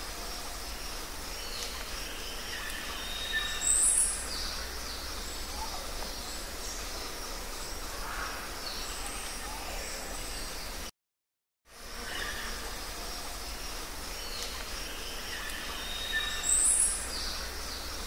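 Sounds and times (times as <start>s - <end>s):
background hiss: 0.0s - 10.9s, 11.7s - 18.0s.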